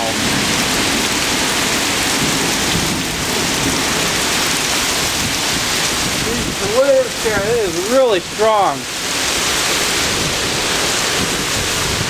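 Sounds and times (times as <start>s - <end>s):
heavy rain pouring: 0.0s - 12.0s
strong wind gusting: 0.0s - 12.0s.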